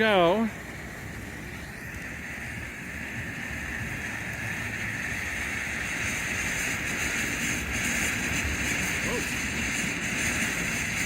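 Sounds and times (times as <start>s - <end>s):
firework fountain hissing: 0.0s - 11.0s.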